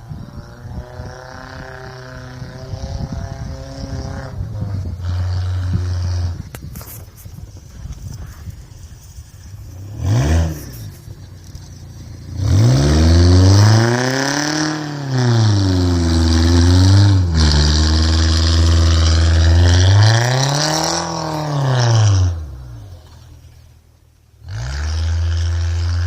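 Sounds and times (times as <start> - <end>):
loud pickup engine revving: 0.0 - 6.5, 9.6 - 23.3, 24.4 - 26.0.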